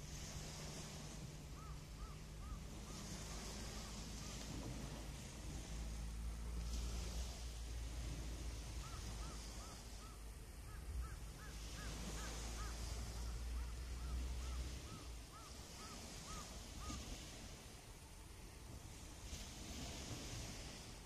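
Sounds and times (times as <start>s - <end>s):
waves washing on shore: 0.0s - 21.0s.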